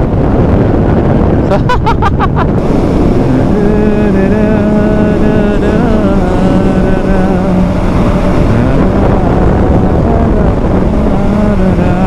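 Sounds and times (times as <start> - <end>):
motorcycle engine running: 0.0 - 12.0
wind rush over microphone: 0.0 - 12.0.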